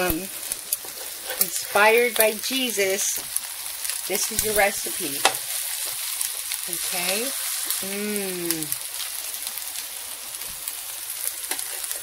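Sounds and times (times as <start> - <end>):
patties frying and sizzling: 0.0 - 12.0.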